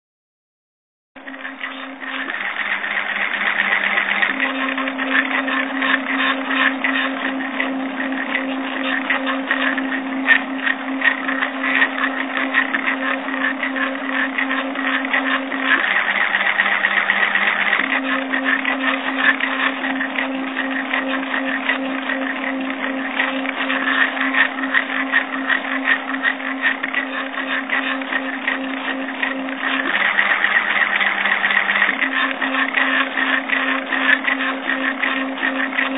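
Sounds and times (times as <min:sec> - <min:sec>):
stepper motor hum: 0:01.2 - 0:35.9.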